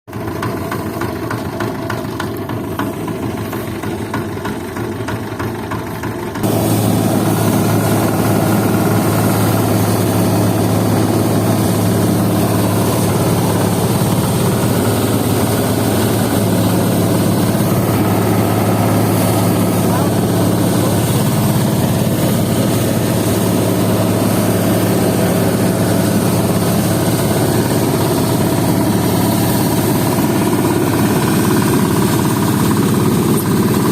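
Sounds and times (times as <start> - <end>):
rice thresher engine droning: 0.1 - 33.9.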